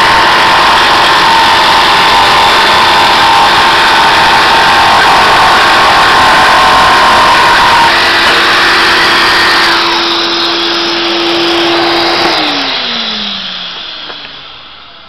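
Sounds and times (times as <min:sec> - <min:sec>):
jigsaw motor whine: 0:00.0 - 0:15.0
vacuum cleaner running: 0:00.0 - 0:15.0.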